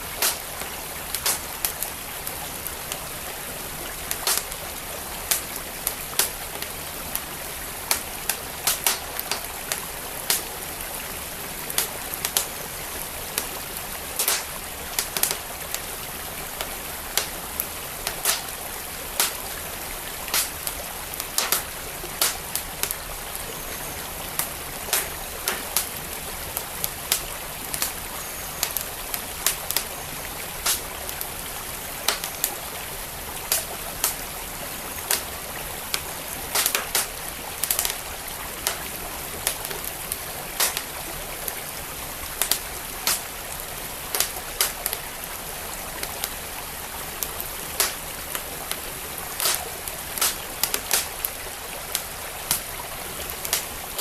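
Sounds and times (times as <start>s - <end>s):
flowing stream: 0.0s - 54.0s
wood fire crackling: 0.0s - 54.0s.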